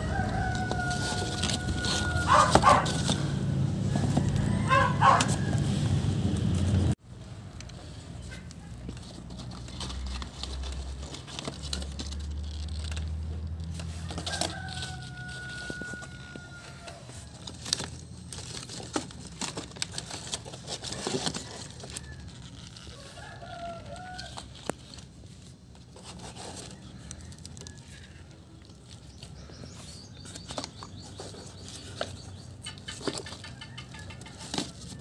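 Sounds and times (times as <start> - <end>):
cardboard and paper rustling: 0.0 - 7.0, 7.8 - 35.0.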